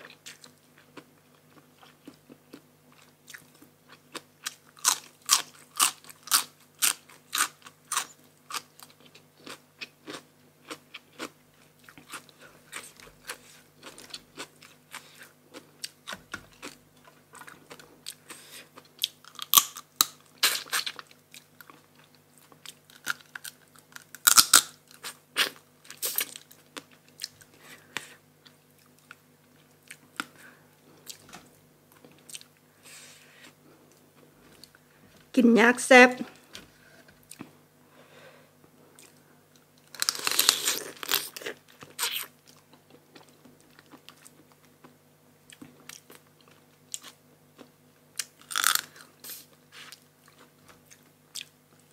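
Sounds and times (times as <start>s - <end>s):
chewing crunchy food: 0.0s - 32.6s, 37.2s - 37.6s, 38.9s - 51.9s.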